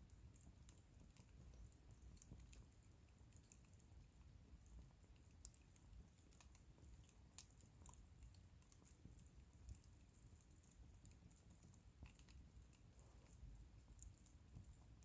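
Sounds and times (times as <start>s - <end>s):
wood bonfire crackling: 0.0s - 15.0s.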